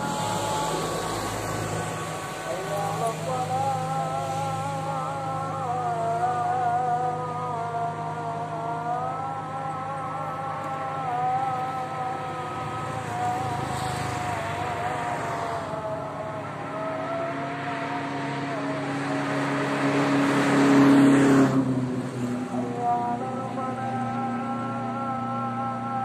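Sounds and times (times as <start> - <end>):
car passing by: 0.0 - 5.8, 10.1 - 26.0.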